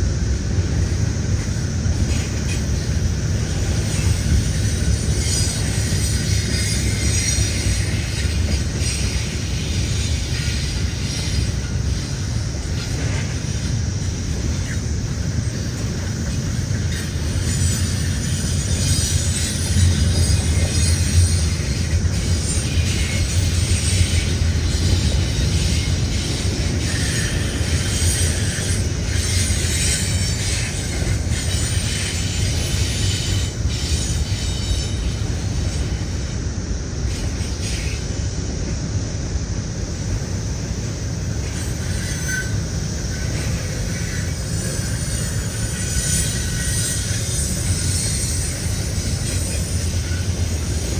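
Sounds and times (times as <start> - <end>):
train cars rolling on rails: 0.0 - 50.9
wheel squeals: 1.9 - 36.3, 40.9 - 50.9.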